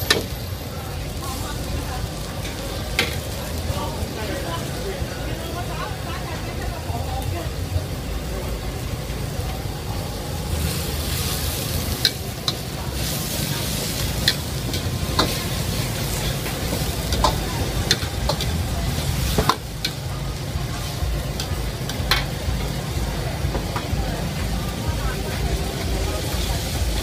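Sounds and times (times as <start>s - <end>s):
food sizzling in a wok: 0.0s - 27.0s.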